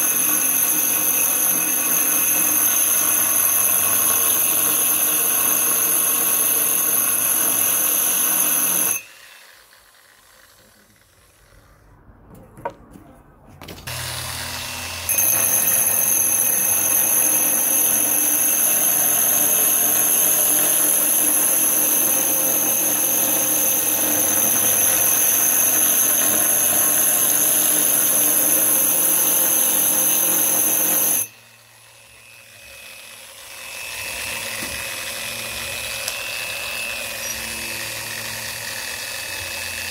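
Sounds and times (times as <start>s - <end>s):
grinder drilling into stone: 0.0s - 11.5s, 13.9s - 39.9s.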